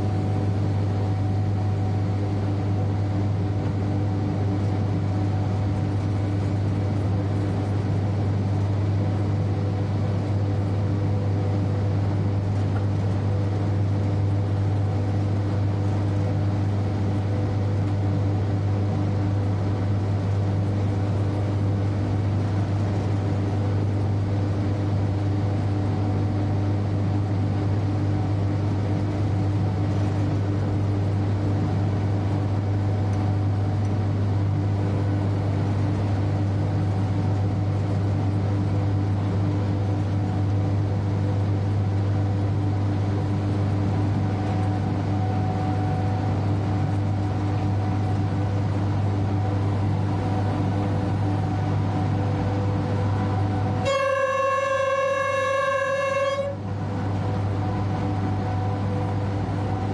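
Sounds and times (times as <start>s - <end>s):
train running hum: 0.0s - 59.9s.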